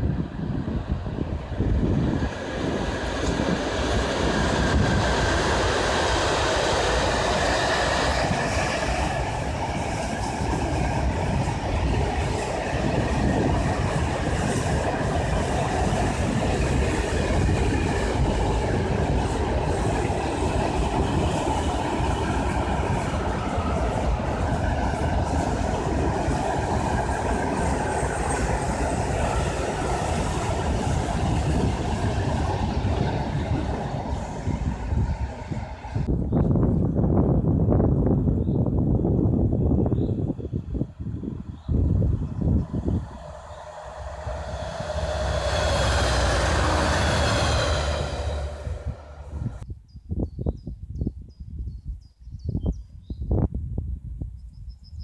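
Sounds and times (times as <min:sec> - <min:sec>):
freight train passing: 0:00.0 - 0:49.7.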